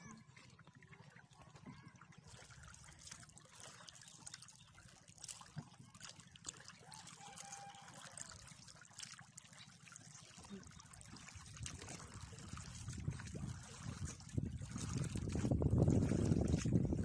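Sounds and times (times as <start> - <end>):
water trickling and lapping: 0.0 - 17.0.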